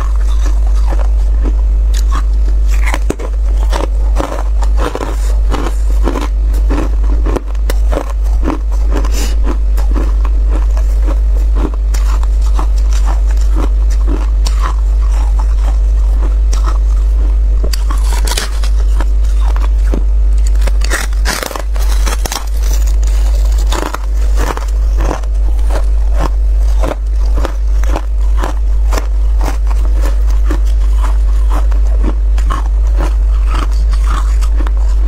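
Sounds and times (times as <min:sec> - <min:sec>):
chewing crunchy ice: 0:00.0 - 0:35.0
steady low hum: 0:00.0 - 0:35.0.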